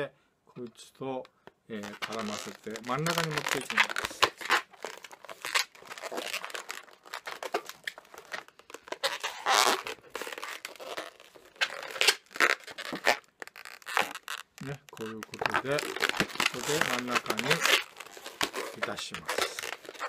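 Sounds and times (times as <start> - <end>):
rubbery balloon squeaks: 1.7 - 20.0.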